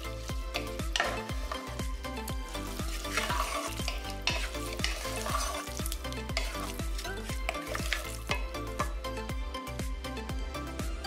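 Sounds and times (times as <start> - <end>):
wooden spoon scraping metal bowl: 0.0 - 8.9
background music with steady beat: 0.0 - 11.0.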